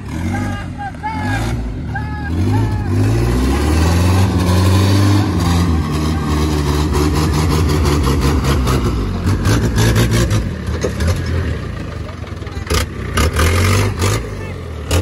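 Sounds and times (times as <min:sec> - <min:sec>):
truck engine running hard: 0:00.0 - 0:15.0.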